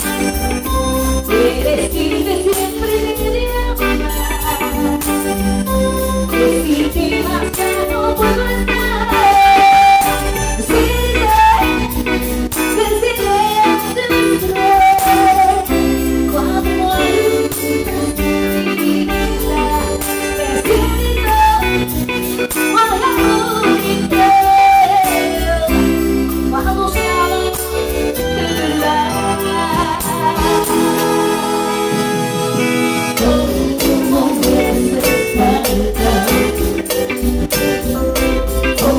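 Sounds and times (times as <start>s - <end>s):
live cumbia band playing: 0.0s - 38.9s.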